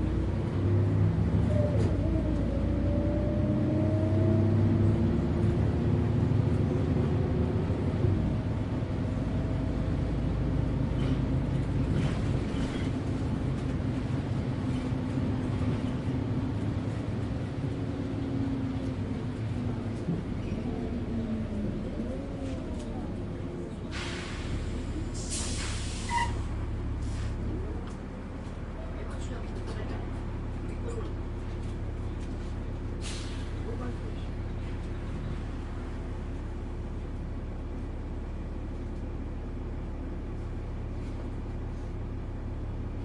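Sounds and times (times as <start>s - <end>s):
bus engine rumble: 0.0s - 43.0s
road noise: 0.0s - 43.0s.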